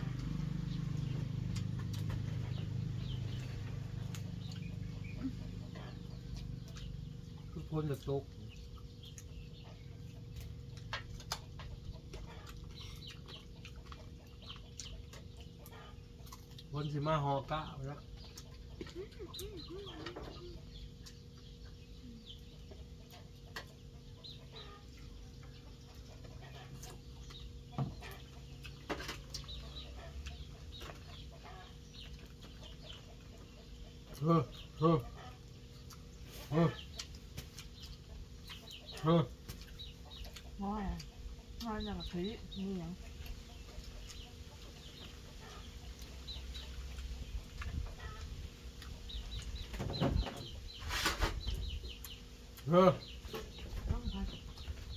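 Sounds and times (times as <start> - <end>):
chickens clucking: 0.0 - 54.9
small birds chirping: 0.0 - 54.9.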